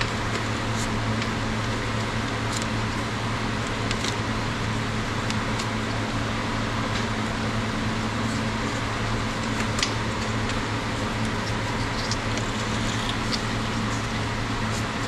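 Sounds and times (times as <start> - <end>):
machine hum with drone: 0.0 - 15.0.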